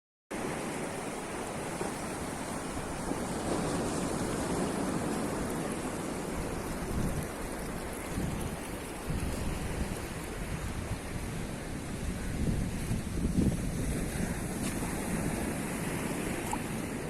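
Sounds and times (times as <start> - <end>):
surf washing onto beach: 0.3 - 17.0.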